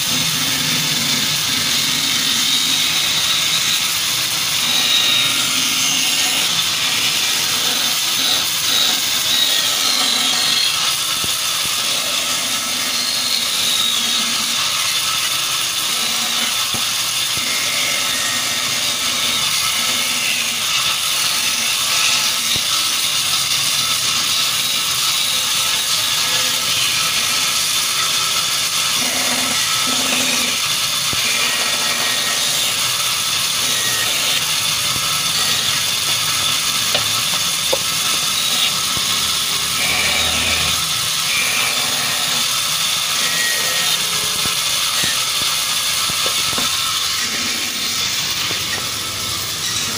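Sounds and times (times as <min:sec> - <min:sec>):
band saw cutting wood: 0:00.0 - 0:49.9.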